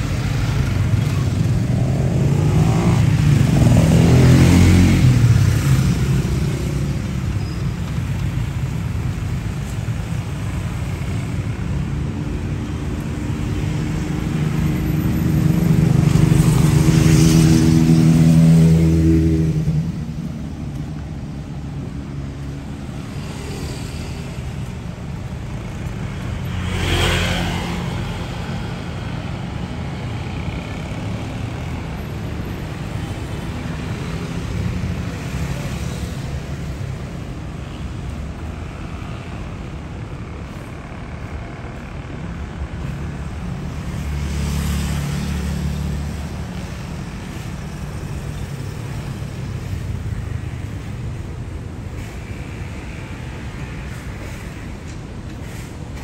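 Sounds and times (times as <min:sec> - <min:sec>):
busy road traffic: 0:00.0 - 0:56.0.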